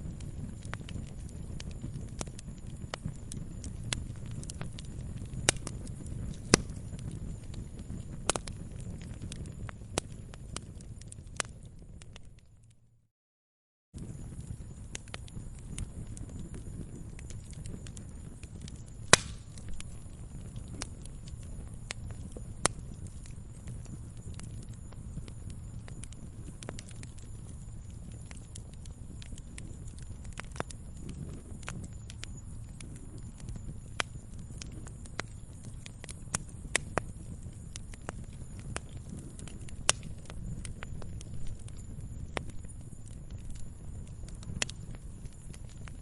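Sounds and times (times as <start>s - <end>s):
sharp pops of fire: 0.0s - 12.4s, 14.0s - 46.0s
bonfire rumbling: 0.0s - 12.7s, 14.0s - 46.0s
fire crackling clicks: 0.0s - 12.8s, 14.0s - 46.0s.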